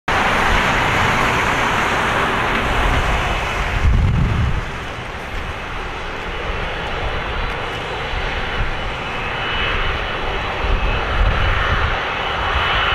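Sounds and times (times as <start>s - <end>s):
jet engines idling: 0.1s - 12.9s
low rumble: 0.1s - 12.9s.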